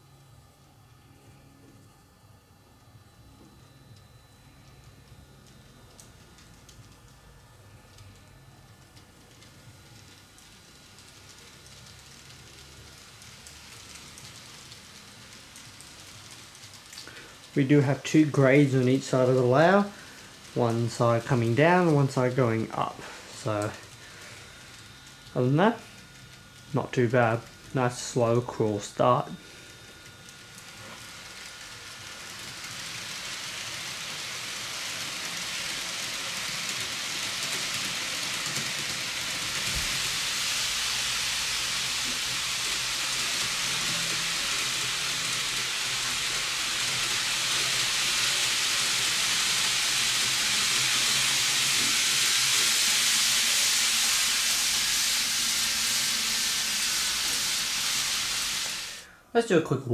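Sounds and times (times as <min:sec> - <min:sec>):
faint low motor hum: 0:00.0 - 0:59.6
model train wheels hissing on rails: 0:09.0 - 0:59.3.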